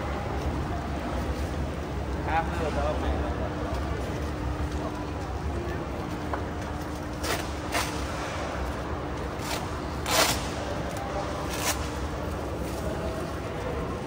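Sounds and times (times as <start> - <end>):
market hall hum: 0.0 - 14.0.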